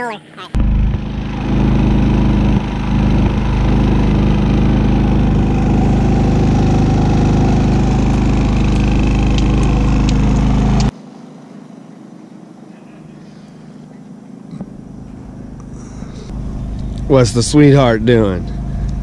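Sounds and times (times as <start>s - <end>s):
generator engine hum: 0.0s - 19.0s.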